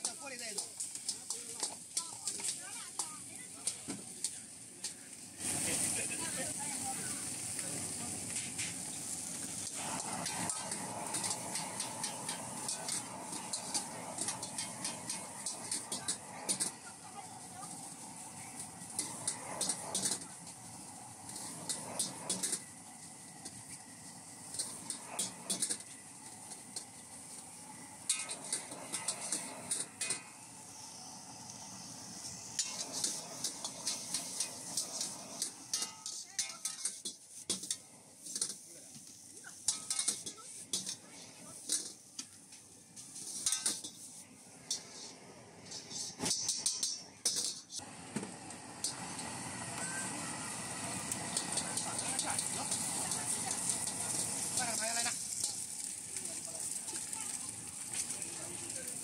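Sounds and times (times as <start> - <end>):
utensil clinking and scraping wok: 0.0 - 47.9, 48.7 - 59.0
food sizzling in a wok: 0.0 - 59.0.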